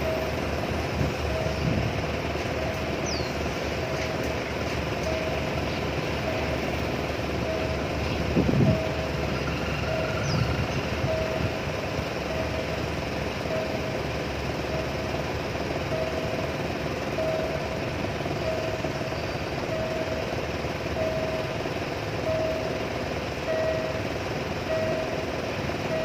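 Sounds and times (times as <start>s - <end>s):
level crossing warning tone: 0.0s - 26.0s
train carriages rumbling past: 0.0s - 26.0s.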